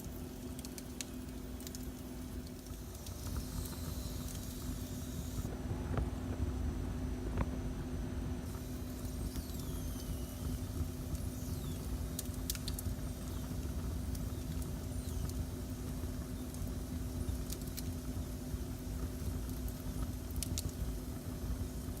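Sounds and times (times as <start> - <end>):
wood fire crackles: 0.0 - 5.5, 8.5 - 22.0
fire low rumble and hum: 0.0 - 22.0.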